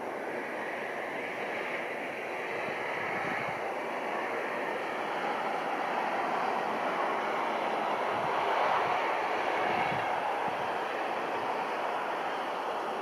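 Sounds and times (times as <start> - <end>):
distant jet engines: 0.0 - 13.0.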